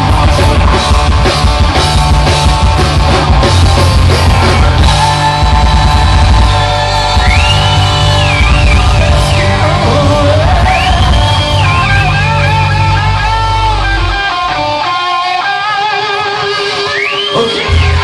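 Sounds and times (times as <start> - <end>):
electric guitar high notes: 0.0 - 18.0
live rock band playing: 0.0 - 18.0.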